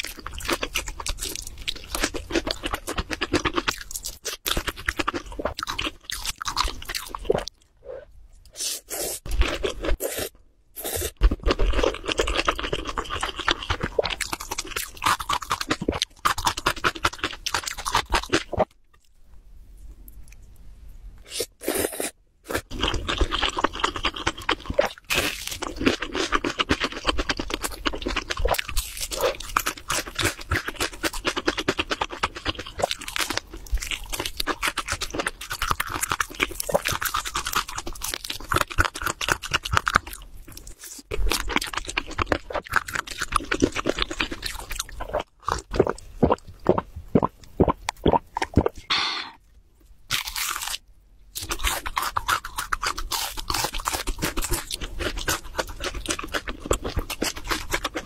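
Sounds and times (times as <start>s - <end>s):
crunching fried chicken: 0.0s - 7.6s, 11.1s - 18.7s, 22.6s - 46.4s, 50.1s - 58.0s.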